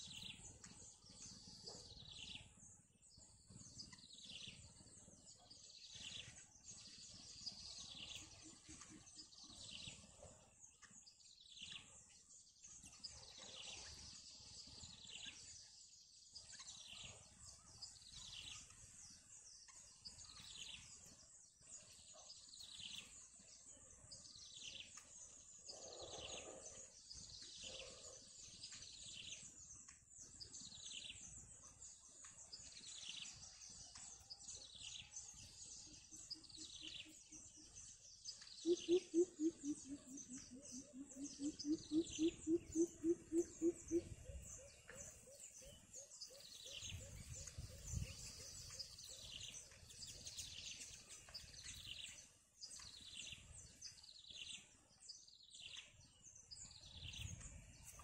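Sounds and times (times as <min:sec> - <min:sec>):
faint bird chirps: 0:00.0 - 0:58.0.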